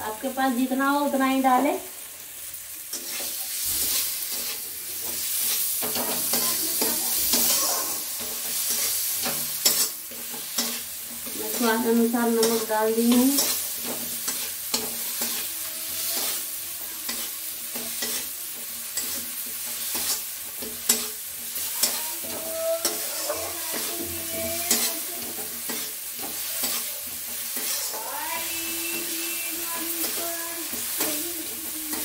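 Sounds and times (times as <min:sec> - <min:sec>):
food sizzling in oil: 0:00.0 - 0:32.0
spatula scraping pan: 0:02.9 - 0:32.0.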